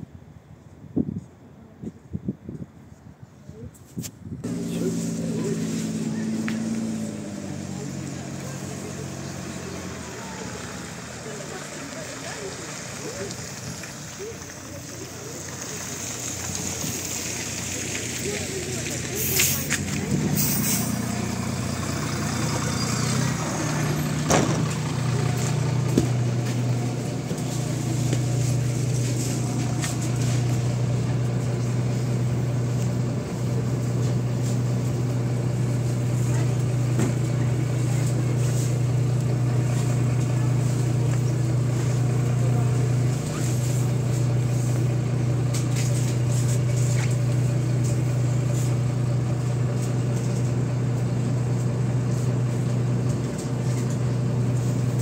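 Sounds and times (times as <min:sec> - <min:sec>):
bus diesel engine idling: 0:04.4 - 0:55.0.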